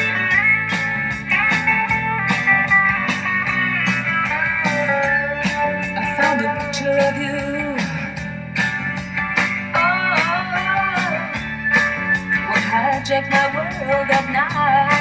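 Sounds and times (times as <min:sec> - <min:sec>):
guitar-led song with drum beat: 0:00.0 - 0:15.0.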